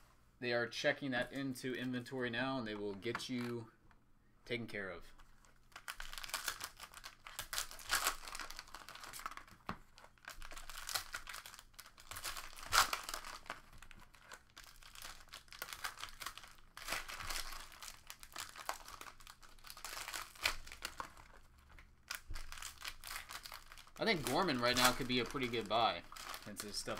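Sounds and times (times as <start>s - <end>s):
plastic wrapping crinkling and tearing: 5.1s - 26.9s.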